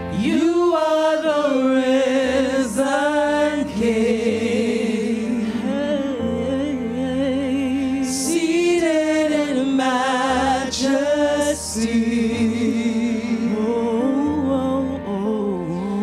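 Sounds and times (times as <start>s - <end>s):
sustained accompaniment chords: 0.0s - 16.0s
women singing: 0.0s - 16.0s.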